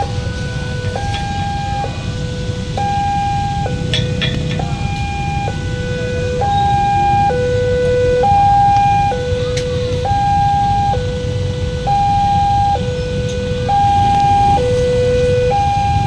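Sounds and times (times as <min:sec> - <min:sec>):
low rumble: 0:00.0 - 0:16.0
two-tone crossing siren: 0:00.0 - 0:16.0.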